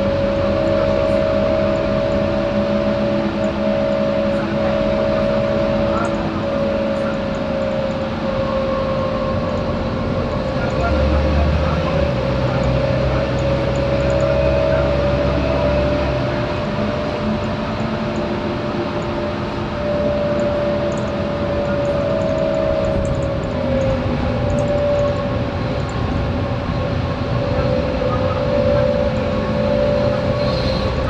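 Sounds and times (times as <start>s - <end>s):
bus diesel engine whine: 0.0s - 31.0s
deep low engine note: 0.0s - 31.0s.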